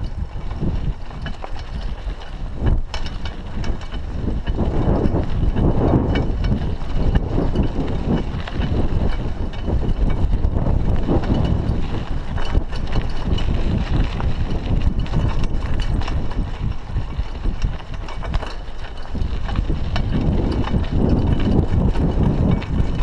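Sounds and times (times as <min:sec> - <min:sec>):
bike rattling: 0:00.0 - 0:23.0
bike tyres crunching on gravel: 0:00.0 - 0:23.0.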